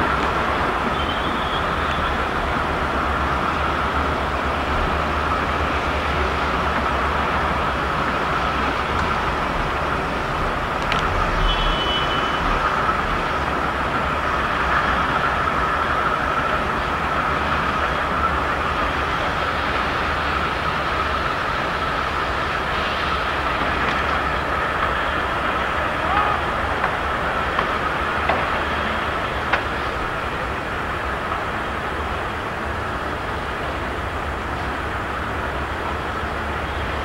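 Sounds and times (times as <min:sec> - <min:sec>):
train rolling through station: 0:00.0 - 0:37.0.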